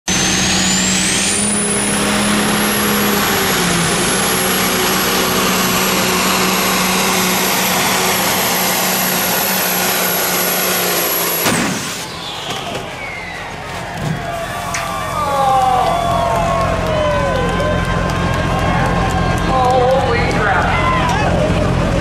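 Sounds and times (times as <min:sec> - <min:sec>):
diesel truck engine under load: 0:00.1 - 0:22.0.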